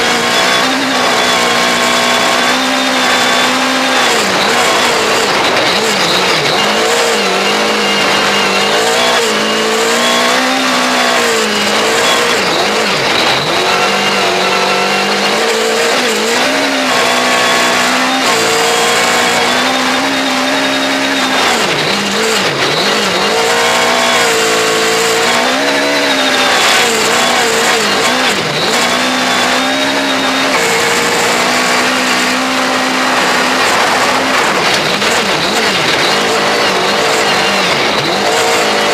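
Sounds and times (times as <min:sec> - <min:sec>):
rally car engine revving: 0:00.0 - 0:38.9
road and wind noise: 0:00.0 - 0:38.9.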